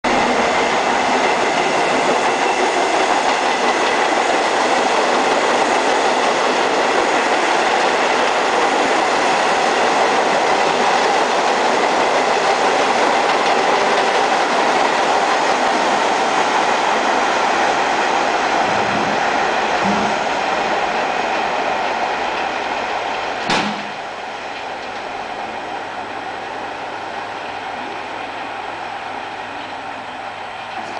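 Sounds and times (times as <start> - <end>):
subway train wheels rushing on rails: 0.0 - 30.9.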